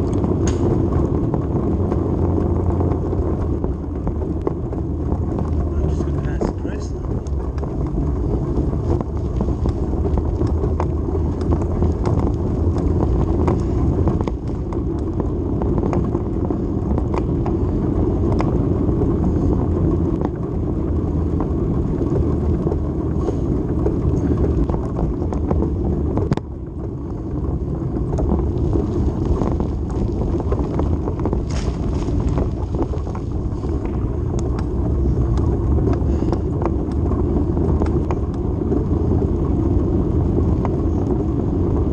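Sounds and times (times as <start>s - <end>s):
vehicle road noise on concrete: 0.0s - 41.9s
wind on microphone: 0.0s - 41.9s.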